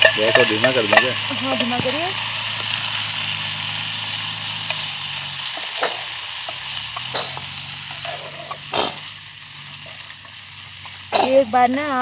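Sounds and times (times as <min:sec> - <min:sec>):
spatula scraping a frying pan: 0:00.0 - 0:10.3
food sizzling: 0:00.0 - 0:12.0.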